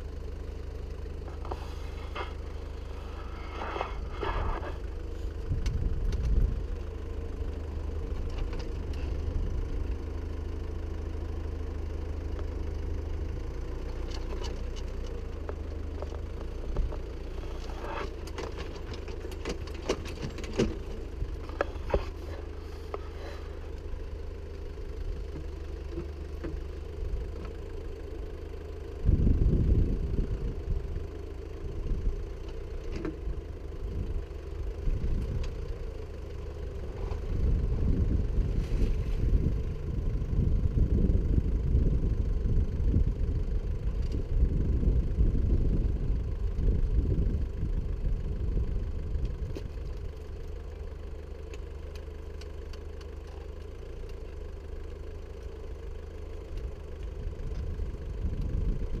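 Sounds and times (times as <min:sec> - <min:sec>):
backhoe engine running: 0:00.0 - 0:59.0
rough low rumble: 0:00.0 - 0:59.0.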